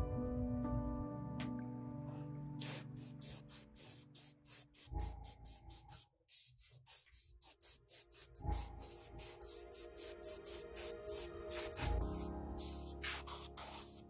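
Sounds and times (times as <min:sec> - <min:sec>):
fast hissing percussion rhythm: 0:02.6 - 0:14.0.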